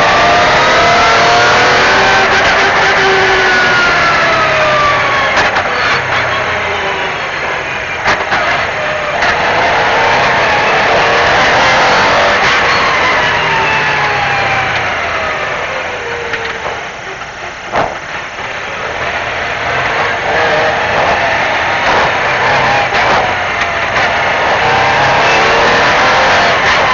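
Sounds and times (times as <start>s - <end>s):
rally car engine revving: 0.0s - 26.9s.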